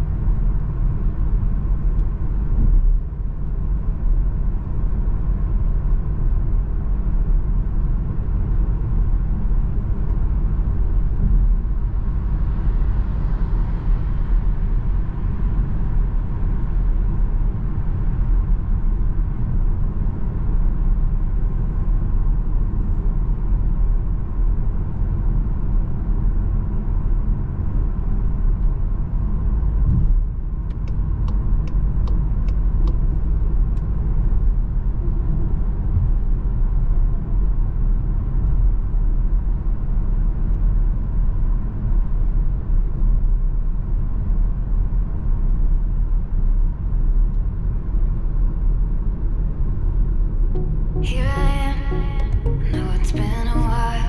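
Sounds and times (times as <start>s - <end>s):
car interior road rumble: 0.0s - 52.3s.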